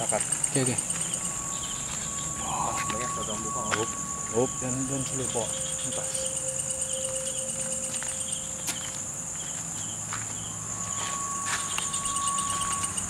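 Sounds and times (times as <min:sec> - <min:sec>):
crickets chirring: 0:00.0 - 0:13.0
steady tone: 0:00.0 - 0:13.0.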